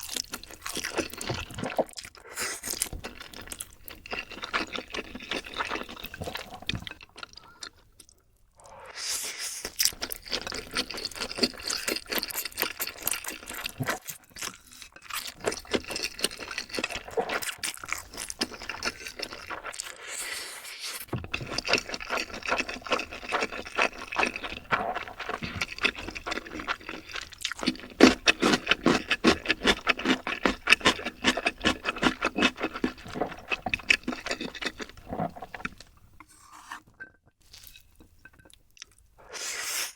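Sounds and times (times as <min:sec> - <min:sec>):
wet chewing and crunching: 0:00.0 - 0:08.5, 0:09.6 - 0:20.0, 0:21.0 - 0:36.3.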